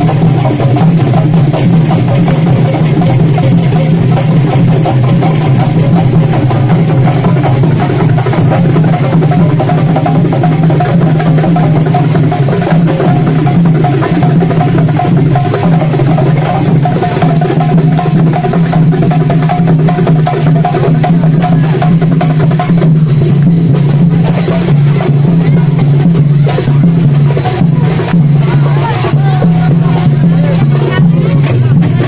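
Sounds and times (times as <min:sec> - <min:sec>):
drums: 0:00.0 - 0:32.0.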